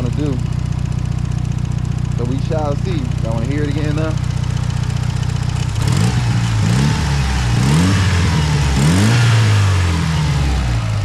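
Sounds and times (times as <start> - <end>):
car engine revving: 2.0 - 11.0.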